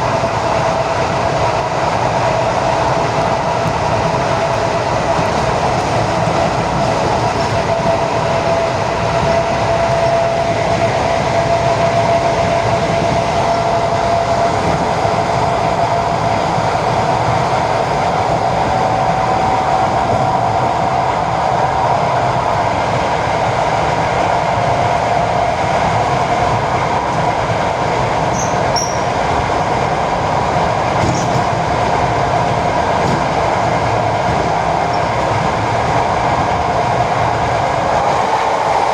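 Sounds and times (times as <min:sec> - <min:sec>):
train wheels rumbling: 0:00.0 - 0:38.9.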